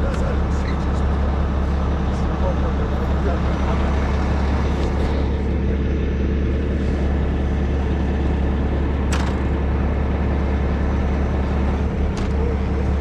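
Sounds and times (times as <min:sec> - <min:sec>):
tow truck engine humming: 0:00.0 - 0:13.0.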